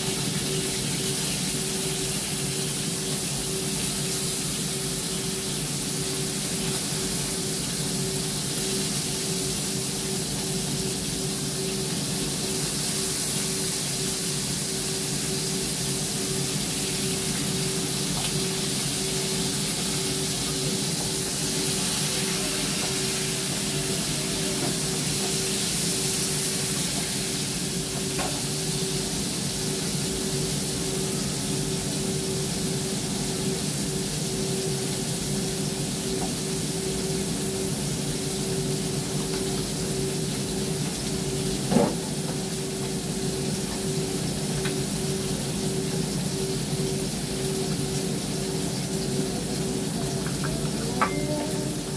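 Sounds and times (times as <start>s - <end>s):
extractor fan hissing: 0.0s - 51.9s
fan motor hum: 0.0s - 51.9s.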